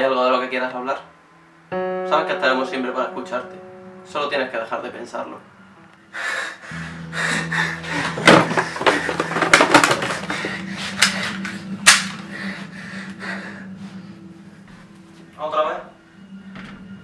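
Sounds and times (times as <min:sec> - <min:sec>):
low hum: 0:01.1 - 0:17.0.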